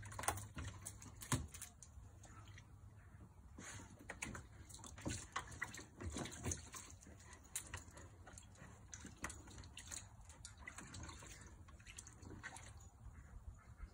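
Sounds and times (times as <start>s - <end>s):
dog splashing in water: 0.0s - 2.6s, 3.9s - 12.8s.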